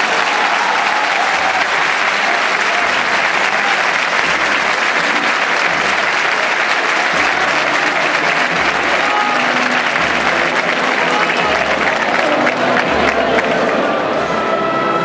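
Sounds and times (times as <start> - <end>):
crowd applauding: 0.0 - 14.3.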